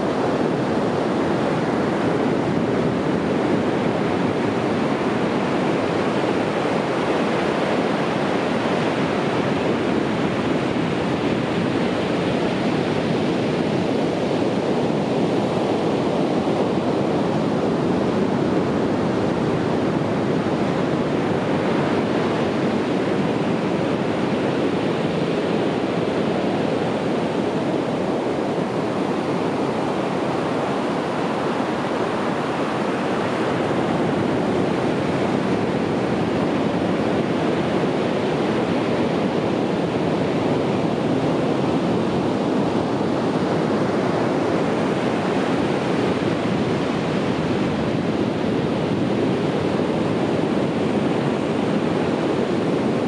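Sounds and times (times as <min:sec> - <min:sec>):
ocean waves washing on beach: 0:00.0 - 0:53.0.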